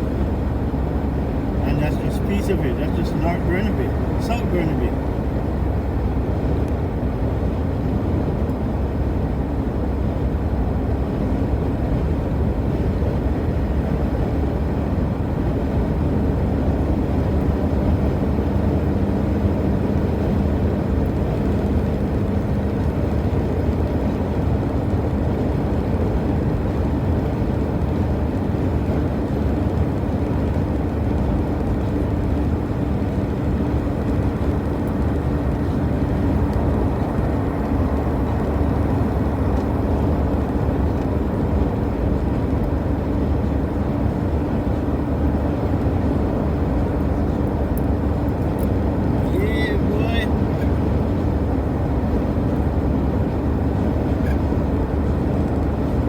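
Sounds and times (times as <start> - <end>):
road rumble: 0.0 - 56.0
vehicle engine hum: 0.0 - 56.0.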